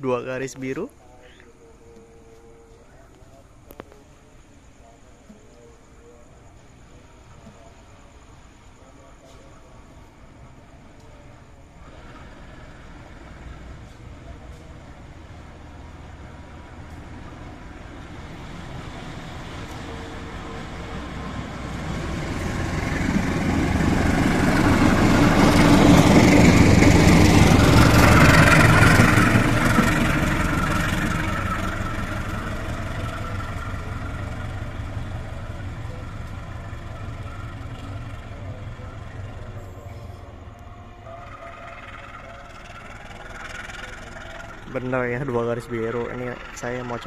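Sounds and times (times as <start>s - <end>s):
diesel locomotive passing: 0.0s - 47.0s.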